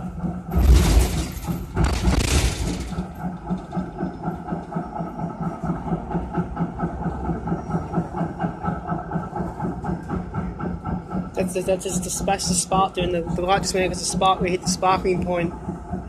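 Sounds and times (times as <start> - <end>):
tram rushing bursts: 0.0 - 16.0
tram wheels rattling: 0.0 - 16.0.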